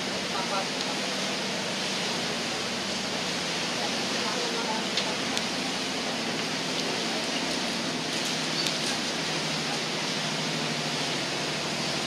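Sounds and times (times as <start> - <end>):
boat engine hum: 0.0 - 12.0
water rushing: 0.0 - 12.0.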